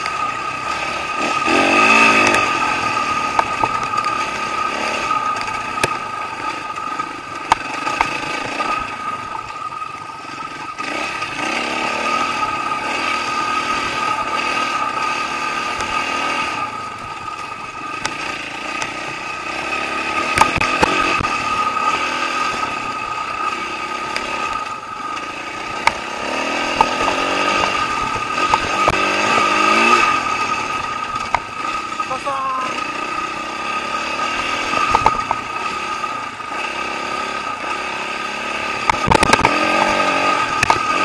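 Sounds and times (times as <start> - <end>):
dirt bike engine running: 0.0 - 41.0.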